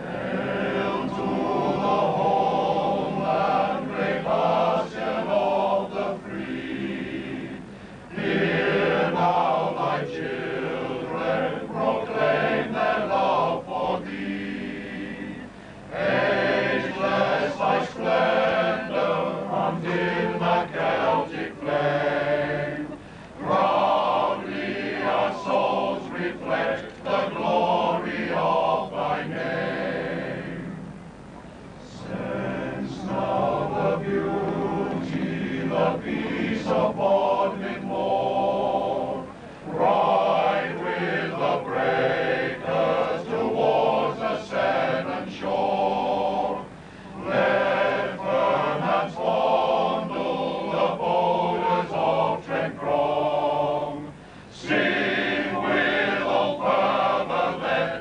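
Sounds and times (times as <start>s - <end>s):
male voice choir singing: 0.0s - 30.9s, 31.8s - 58.0s.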